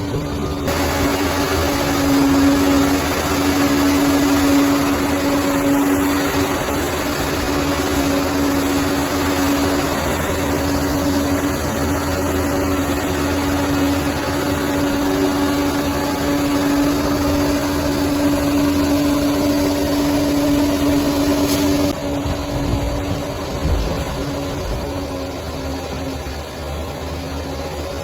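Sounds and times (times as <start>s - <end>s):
bulldozer diesel engine running: 0.0s - 28.0s
steady whine: 0.0s - 28.0s.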